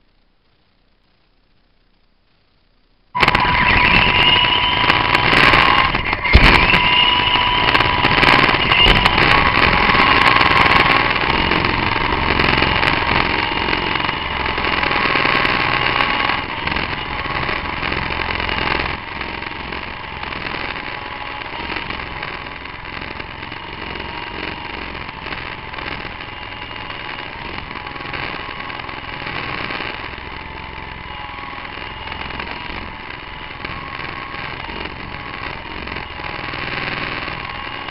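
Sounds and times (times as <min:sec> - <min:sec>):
remote-control helicopter whining: 0:03.2 - 0:37.9.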